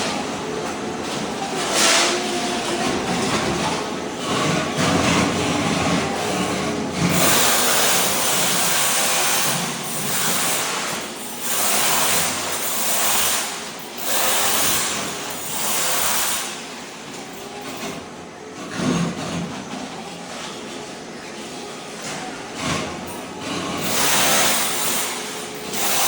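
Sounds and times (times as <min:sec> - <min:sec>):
floor scraper blade scraping concrete: 0:01.0 - 0:26.0.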